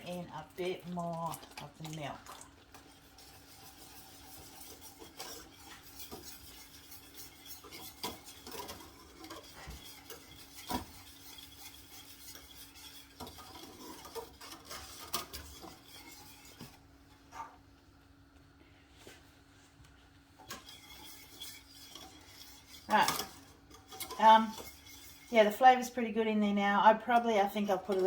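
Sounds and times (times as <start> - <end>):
spoon stirring in a saucepan: 0.0 - 17.8, 20.3 - 28.0.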